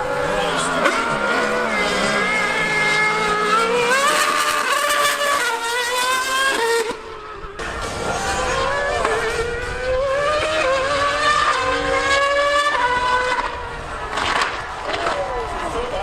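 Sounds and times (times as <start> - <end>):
racing engine revving: 0.0 - 16.0.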